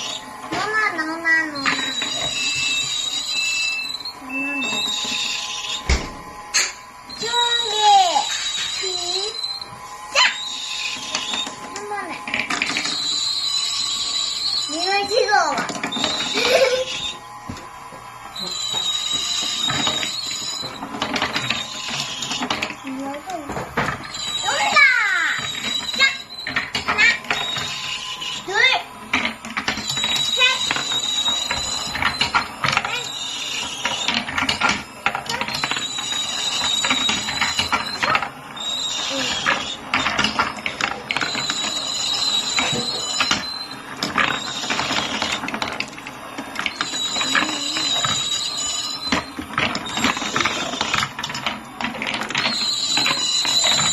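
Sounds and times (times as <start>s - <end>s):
marbles rolling on wooden run: 0.0s - 5.8s, 10.2s - 17.6s, 18.3s - 53.9s
steady high ringing tone: 0.0s - 53.9s.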